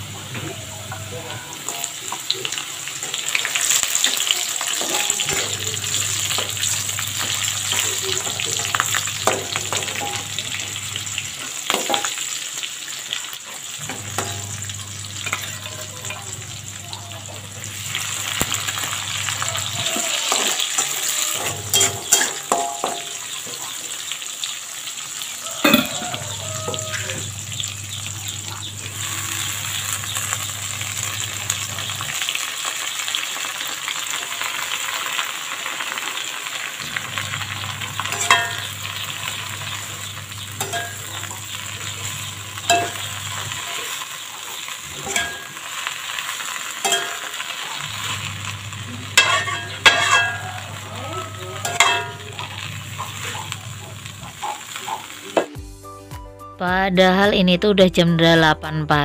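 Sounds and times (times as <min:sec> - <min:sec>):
food sizzling in hot oil: 0:00.0 - 0:55.7.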